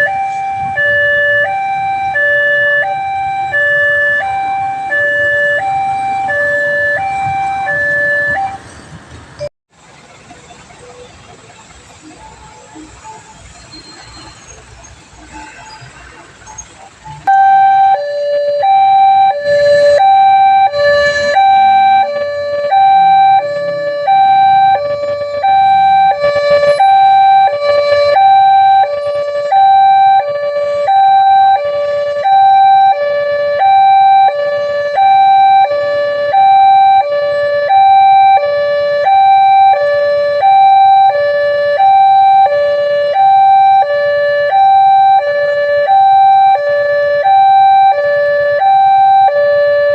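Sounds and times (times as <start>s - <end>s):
level crossing two-tone alarm: 0.0s - 8.6s, 17.3s - 49.9s.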